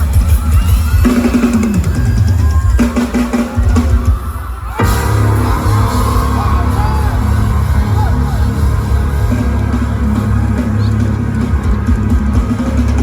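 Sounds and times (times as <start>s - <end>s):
drum kit: 0.0s - 13.0s
live pop band: 0.0s - 13.0s.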